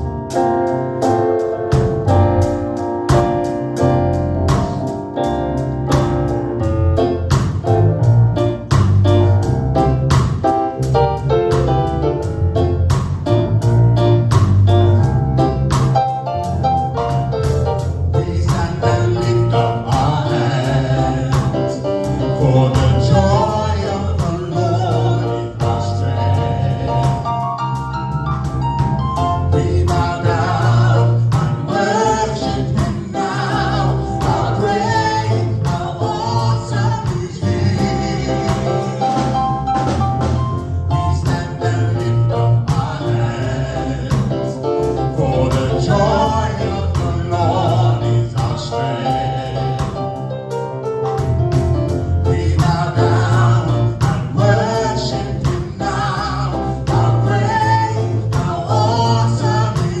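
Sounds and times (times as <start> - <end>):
gospel band with singers: 0.0 - 60.0.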